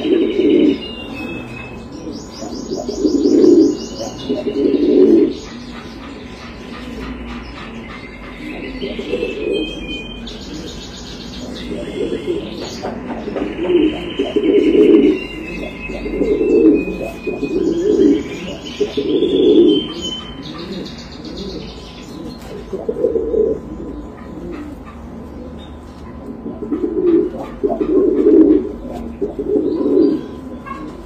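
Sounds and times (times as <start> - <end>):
birds chirping: 0.0 - 31.0
pigeons cooing: 0.0 - 31.0.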